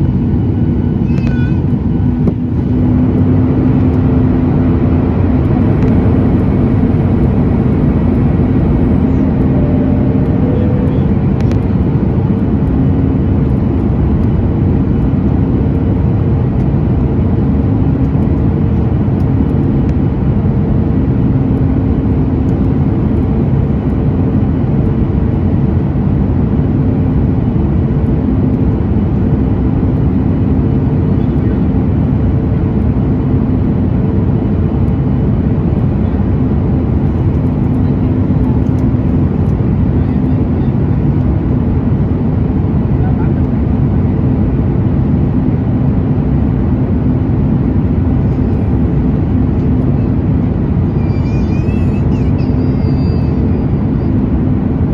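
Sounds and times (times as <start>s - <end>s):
low even hum: 0.0s - 51.0s
jet engines droning: 0.0s - 54.9s.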